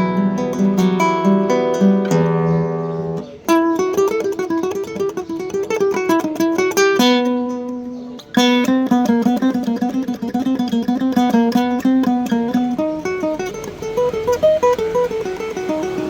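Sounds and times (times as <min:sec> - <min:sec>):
classical guitar playing: 0:00.0 - 0:16.0.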